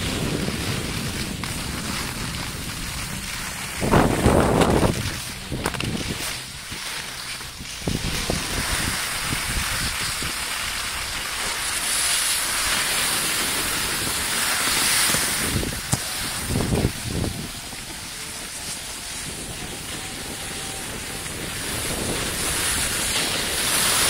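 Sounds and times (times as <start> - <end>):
snowboards hissing over snow: 0.0 - 24.0
wind buffeting microphone: 0.0 - 24.0.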